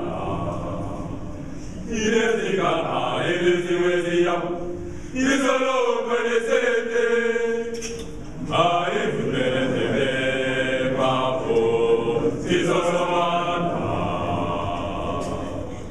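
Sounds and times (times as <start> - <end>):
mixed choir singing a hymn: 0.0 - 15.9.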